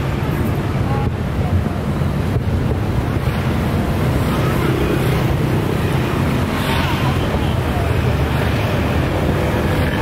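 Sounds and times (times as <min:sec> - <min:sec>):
crowd murmur: 0:00.0 - 0:02.8, 0:04.0 - 0:10.0
wind buffeting microphone: 0:00.0 - 0:10.0.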